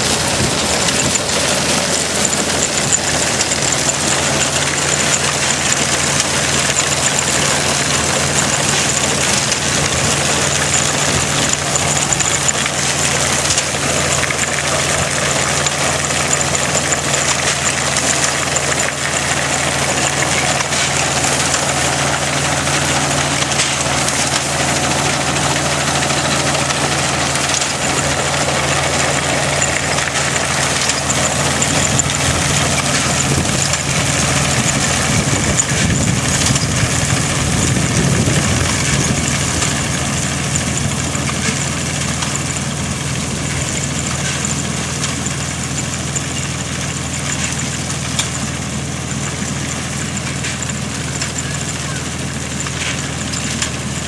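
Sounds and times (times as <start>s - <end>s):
heavy low rumble: 0.0s - 44.2s
tractor engine running: 0.0s - 54.0s.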